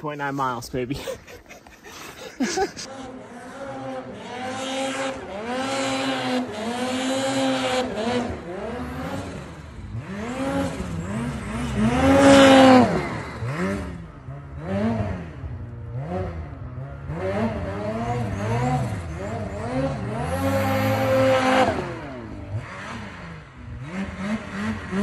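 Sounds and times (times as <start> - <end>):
snowmobile engine revving: 0.0 - 25.0.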